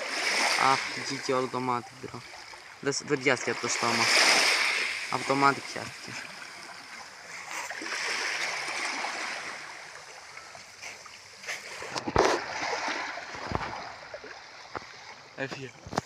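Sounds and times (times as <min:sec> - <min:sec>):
sea water splashing: 0:00.0 - 0:16.0.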